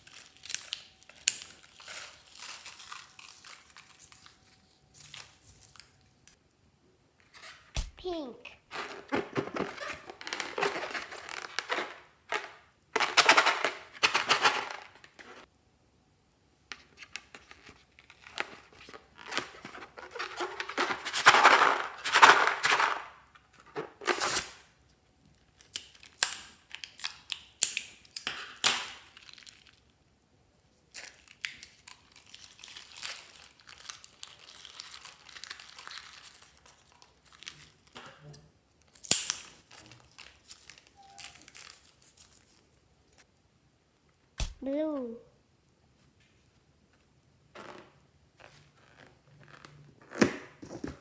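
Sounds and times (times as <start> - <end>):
crinkling and rustling of materials: 0.0 - 6.4, 7.2 - 15.5, 16.7 - 24.5, 25.2 - 30.0, 30.7 - 43.3, 46.0 - 51.0.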